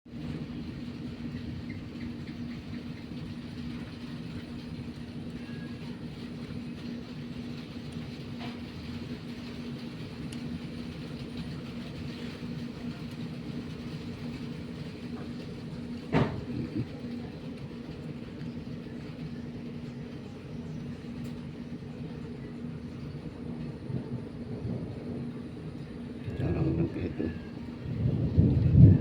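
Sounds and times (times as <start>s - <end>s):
low mechanical hum: 0.1s - 29.0s.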